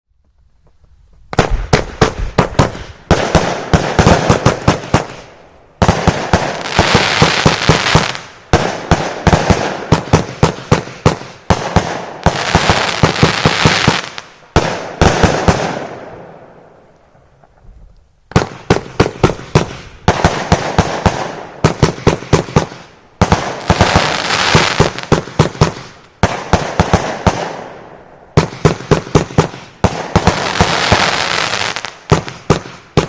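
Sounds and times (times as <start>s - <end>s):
firework crackle: 0.2s - 16.2s, 17.4s - 27.7s, 28.4s - 33.0s
firework bangs: 0.6s - 16.7s, 18.3s - 33.0s.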